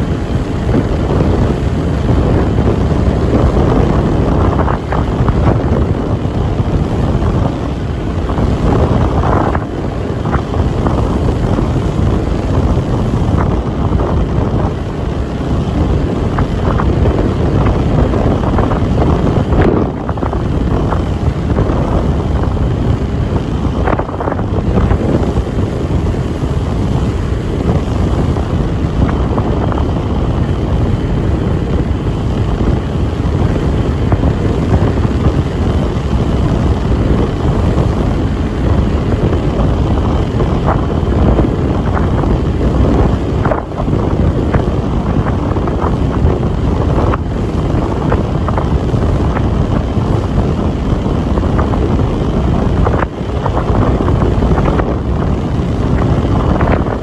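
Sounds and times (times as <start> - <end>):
rushing water: 0.0 - 57.0
wind buffeting microphone: 0.0 - 57.0.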